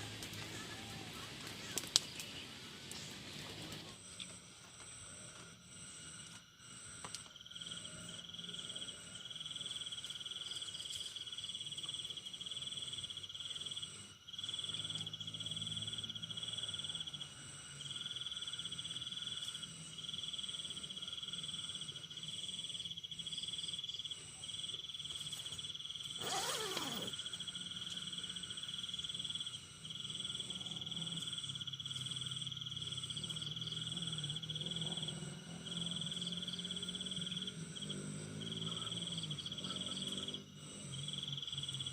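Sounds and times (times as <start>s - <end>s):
faint low hum: 0.0s - 41.9s
insects chirring: 0.0s - 41.9s.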